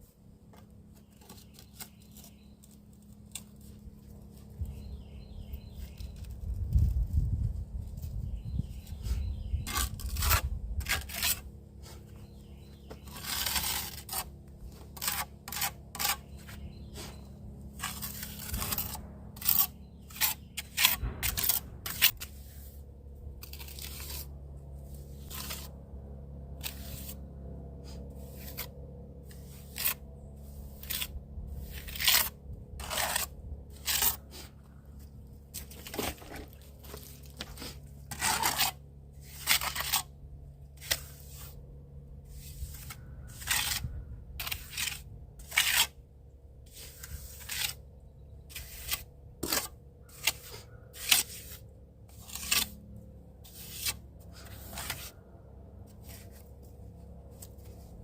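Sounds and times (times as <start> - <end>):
low hum: 0.0 - 58.0
scraping and crunching: 0.4 - 4.8, 5.7 - 25.8, 27.9 - 41.6, 42.3 - 46.0, 46.7 - 55.2, 55.8 - 58.0.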